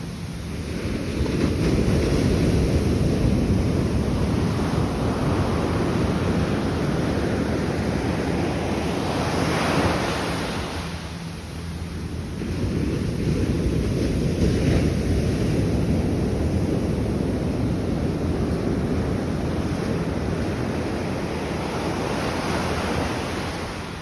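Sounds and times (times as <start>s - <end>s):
ocean waves washing in: 0.0s - 24.0s
wind rumbling on microphone: 0.0s - 24.0s.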